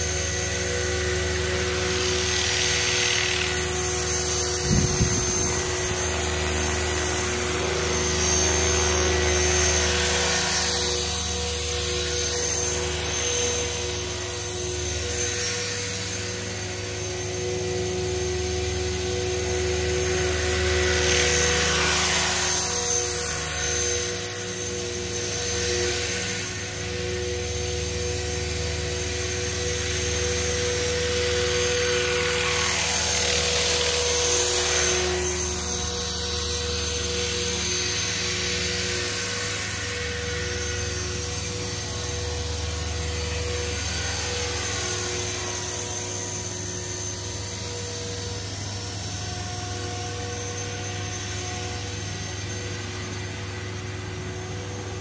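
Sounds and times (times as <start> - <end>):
rc helicopter motor whine: 0.0 - 55.0
rotor blade noise: 0.0 - 55.0.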